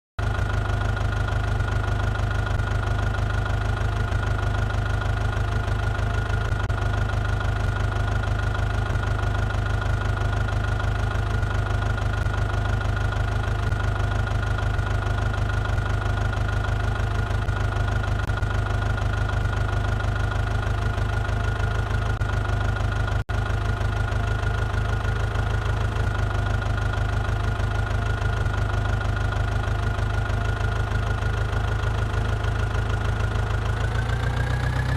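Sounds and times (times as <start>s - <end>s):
tractor diesel engine idling: 0.2s - 34.9s.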